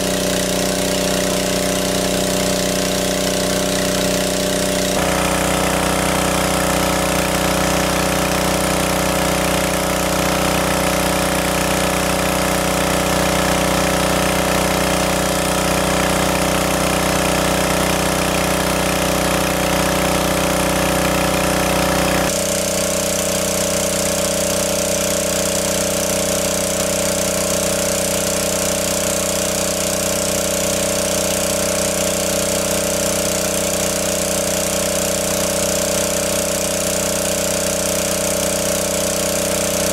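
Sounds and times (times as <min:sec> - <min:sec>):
engine-driven water pump running: 0:00.0 - 0:39.9.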